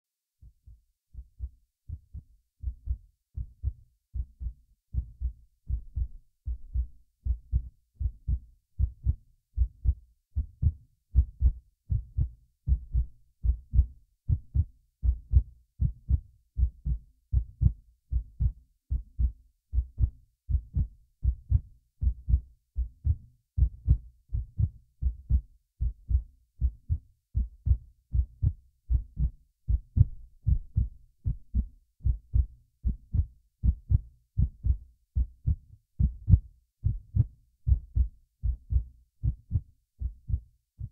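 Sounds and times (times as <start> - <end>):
heartbeat thuds: 0.4 - 40.9.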